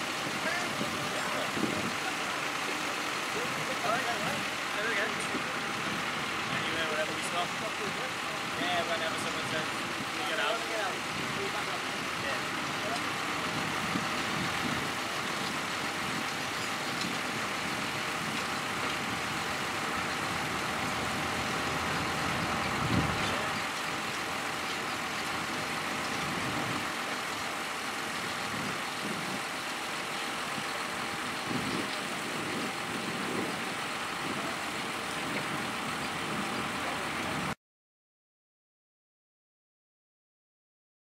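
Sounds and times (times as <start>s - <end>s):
tractor engines running: 0.0s - 37.6s.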